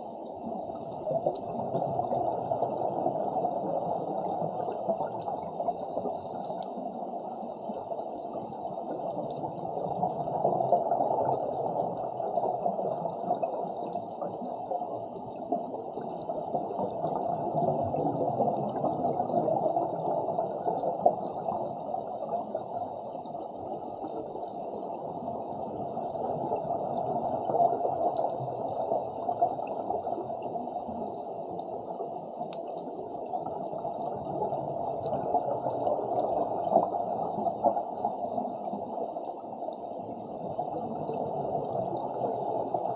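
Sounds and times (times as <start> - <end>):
underwater gurgling rush: 0.0 - 42.9.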